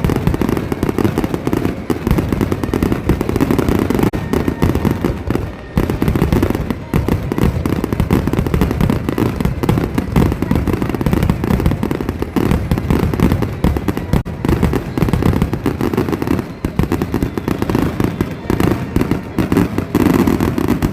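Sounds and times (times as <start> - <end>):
fireworks bangs and pops: 0.0 - 20.9.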